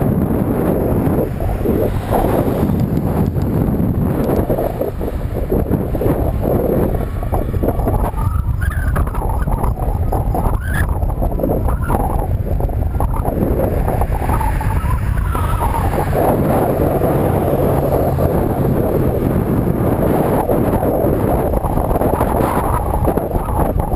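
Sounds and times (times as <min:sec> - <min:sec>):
traffic passing: 0:00.0 - 0:23.9
wind buffeting microphone: 0:00.0 - 0:23.9.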